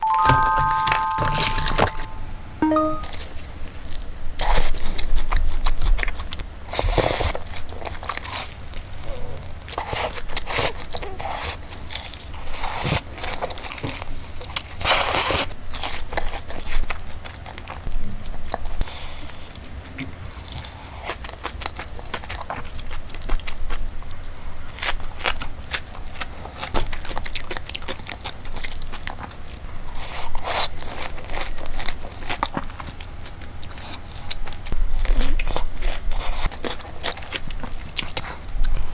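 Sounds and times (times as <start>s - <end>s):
chewing crunchy food: 4.6s - 38.9s.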